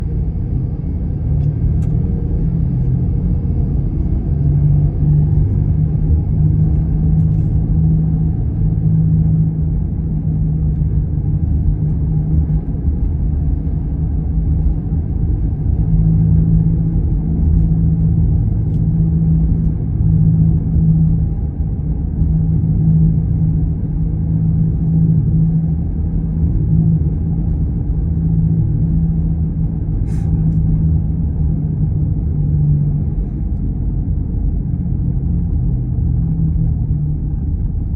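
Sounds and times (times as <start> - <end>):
road rumble: 0.0 - 37.9.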